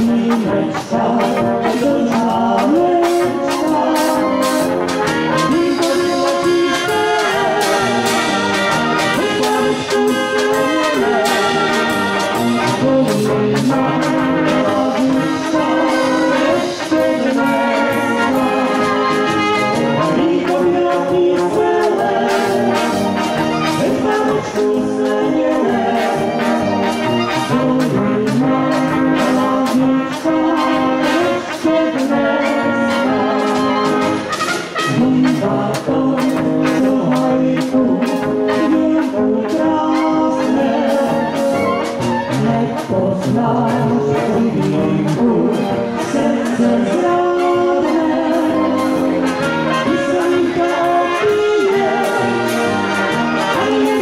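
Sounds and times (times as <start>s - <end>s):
brass band playing: 0.0s - 54.0s
drum kit beat: 0.0s - 54.0s.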